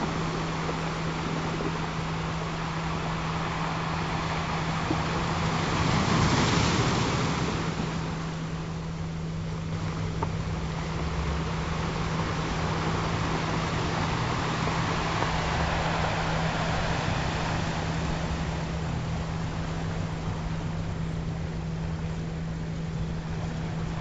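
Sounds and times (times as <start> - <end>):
ocean waves washing: 0.0 - 24.0
steady low tone: 0.0 - 24.0.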